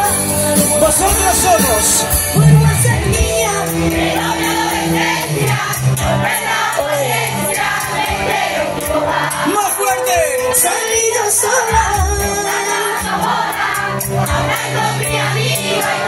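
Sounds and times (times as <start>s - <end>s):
crowd singing along: 0.0s - 16.0s
live pop band music: 0.0s - 16.0s.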